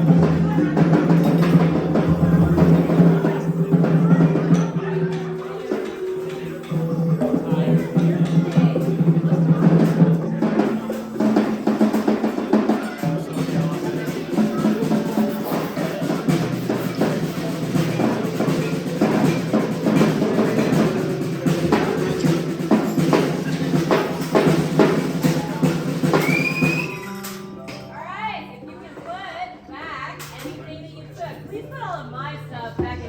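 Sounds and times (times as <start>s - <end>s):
drum hits: 0.0s - 27.5s, 32.8s - 33.0s
cymbal hits: 0.0s - 27.9s.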